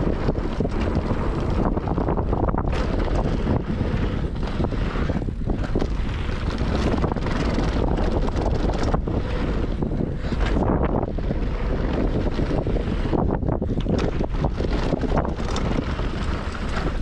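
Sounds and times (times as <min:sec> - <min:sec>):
bike rattling over bumps: 0:00.0 - 0:17.0
tyres rolling over dirt: 0:00.0 - 0:17.0
wind rushing over microphone: 0:00.0 - 0:17.0.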